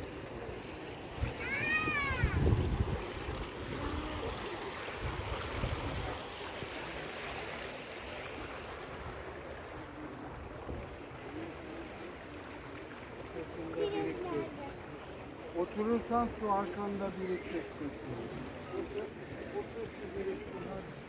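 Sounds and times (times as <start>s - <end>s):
shallow water flowing: 0.0s - 21.0s.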